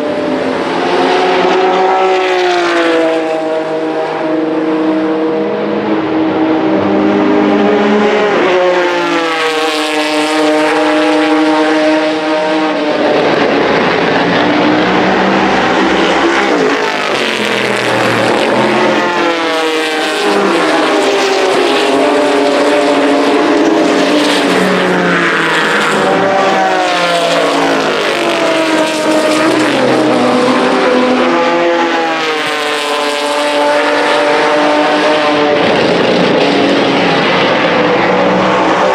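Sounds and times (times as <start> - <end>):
race car engines at full throttle: 0.0 - 38.9.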